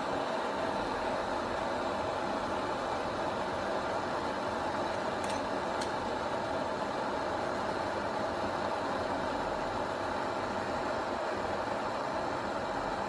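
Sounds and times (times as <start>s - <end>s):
blow torch hissing: 0.0s - 13.0s.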